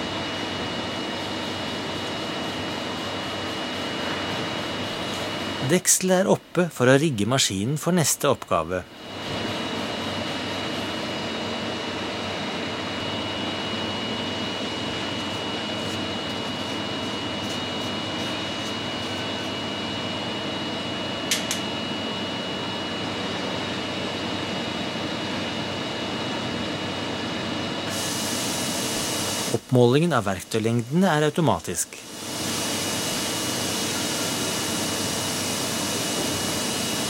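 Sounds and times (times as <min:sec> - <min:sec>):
machine hum: 0:00.0 - 0:06.7, 0:08.0 - 0:29.7, 0:31.9 - 0:37.0
high-pitched whine: 0:00.0 - 0:37.0.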